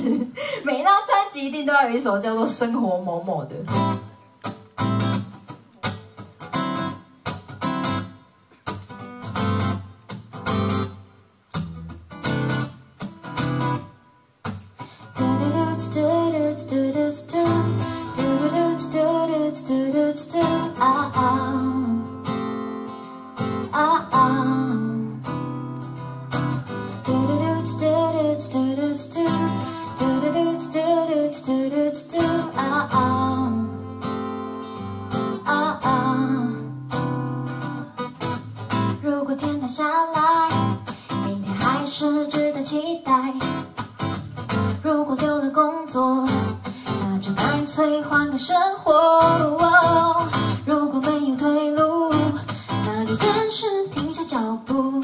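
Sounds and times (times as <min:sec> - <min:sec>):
acoustic guitar playing: 0:03.6 - 0:55.0.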